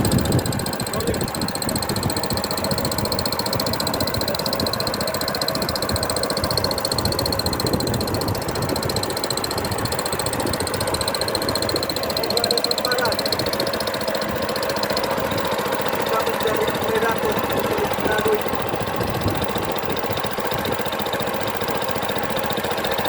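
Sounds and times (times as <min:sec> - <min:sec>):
boat engine running: 0:00.0 - 0:23.0
high engine whine: 0:00.0 - 0:23.0.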